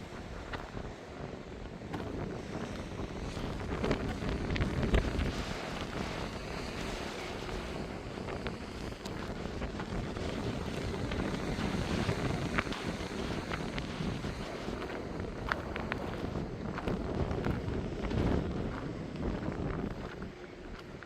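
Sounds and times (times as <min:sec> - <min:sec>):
sea surf: 0:00.0 - 0:21.0
wind buffeting microphone: 0:00.0 - 0:21.0.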